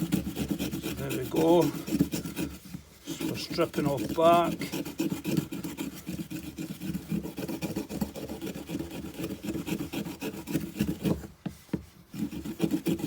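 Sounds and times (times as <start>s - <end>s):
saw teeth rasping on stick: 0.0s - 11.4s, 12.0s - 13.0s.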